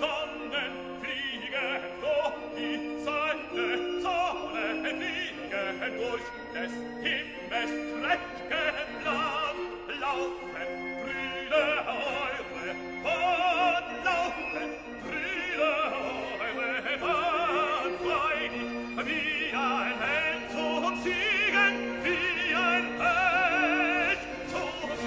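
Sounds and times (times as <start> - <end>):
held accompanying notes: 0.0 - 25.0
operatic singing voice: 0.0 - 25.0.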